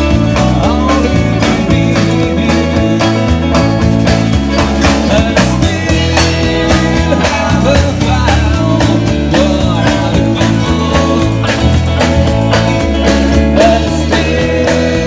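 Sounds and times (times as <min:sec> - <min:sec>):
bass guitar: 0:00.0 - 0:15.0
drums with steady beat: 0:00.0 - 0:15.0
electric guitar: 0:00.0 - 0:15.0.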